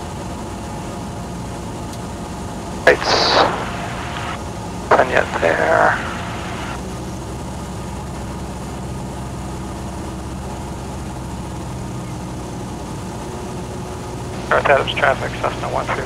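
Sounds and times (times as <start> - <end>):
airplane engine drone: 0.0 - 16.0.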